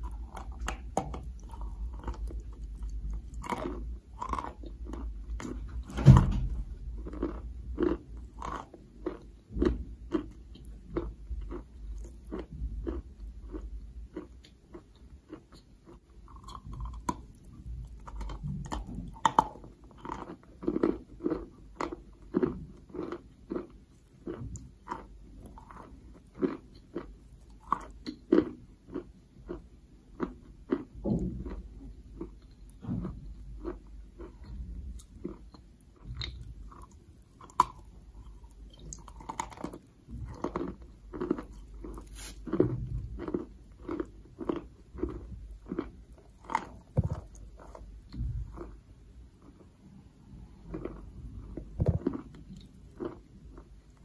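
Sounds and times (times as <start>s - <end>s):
chewing chalk crunches: 0.0s - 48.8s, 50.4s - 54.0s.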